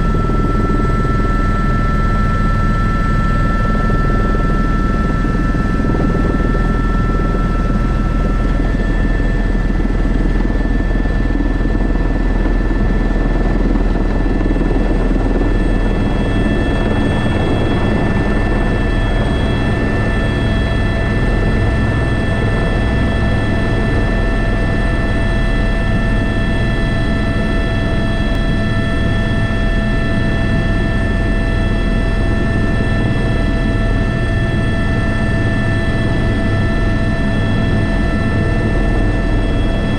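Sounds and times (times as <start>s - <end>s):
helicopter rotor rumble: 0.0s - 39.9s
turbine whine: 0.0s - 39.9s.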